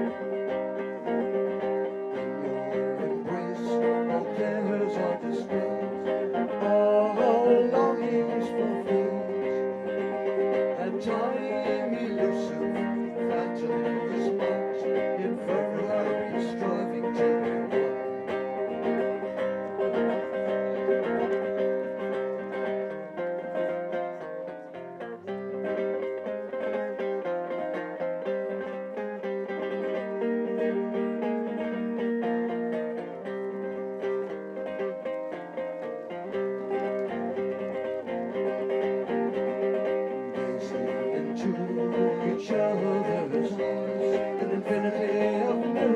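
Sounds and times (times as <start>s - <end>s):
acoustic guitar instrumental: 0.0s - 45.9s.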